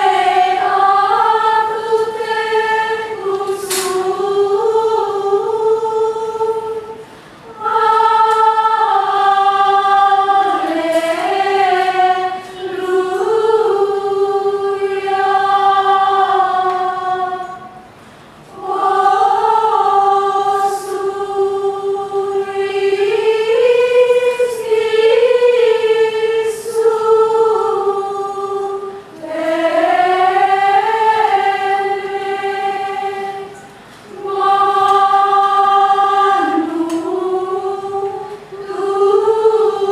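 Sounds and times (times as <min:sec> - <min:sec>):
women's choir chanting in unison: 0:00.0 - 0:39.9.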